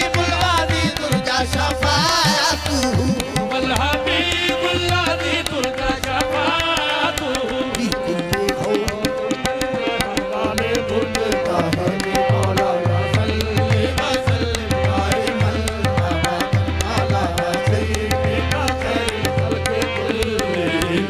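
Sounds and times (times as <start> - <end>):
tabla drumming: 0.0 - 21.0.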